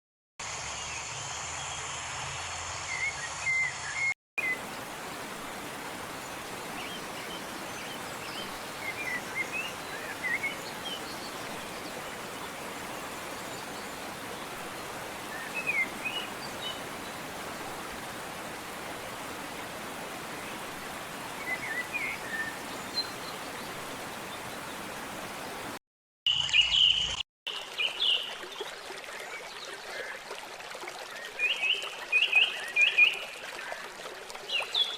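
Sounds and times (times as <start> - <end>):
stream of running water: 0.4 - 34.9.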